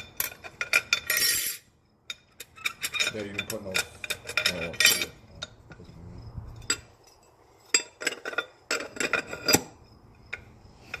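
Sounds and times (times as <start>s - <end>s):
metal parts clinking: 0.0s - 11.0s.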